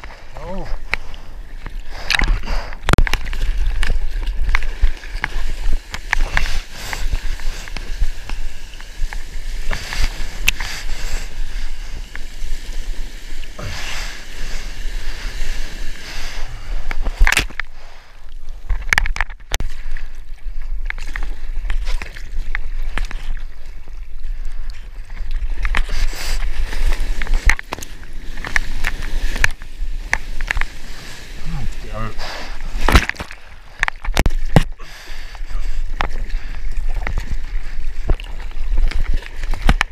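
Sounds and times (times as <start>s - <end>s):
whitewater splashing and sloshing: 0.0s - 39.9s.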